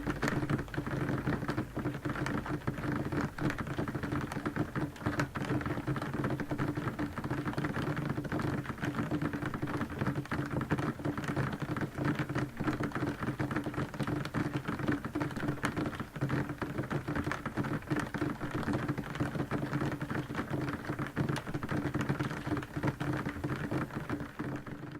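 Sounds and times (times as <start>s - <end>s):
heavy rain on window glass: 0.0s - 24.9s.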